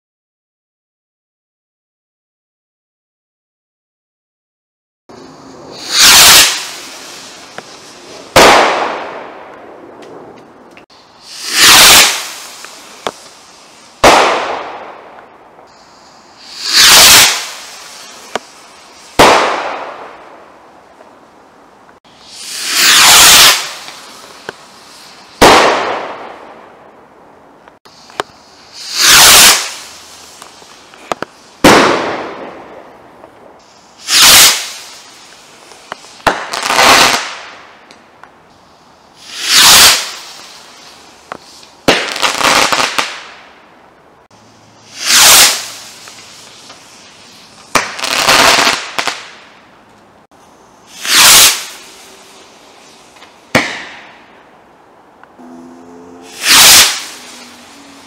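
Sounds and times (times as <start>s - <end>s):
firework comets firing: 5.1s - 21.1s, 21.9s - 27.0s, 27.8s - 43.7s, 44.3s - 54.5s, 56.2s - 58.0s
firework crackle: 5.1s - 55.4s, 56.2s - 58.0s.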